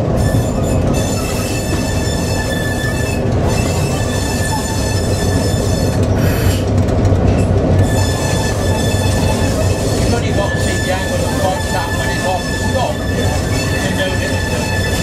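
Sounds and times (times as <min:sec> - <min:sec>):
diesel locomotive engine hum: 0:00.0 - 0:15.0.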